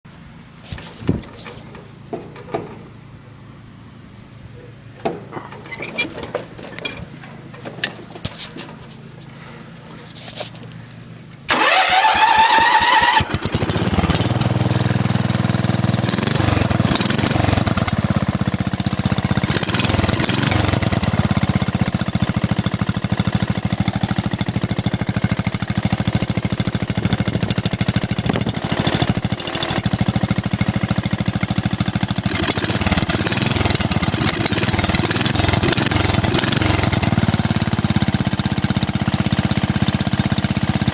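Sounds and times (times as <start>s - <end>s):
small engine starting and running: 0.3s - 40.9s.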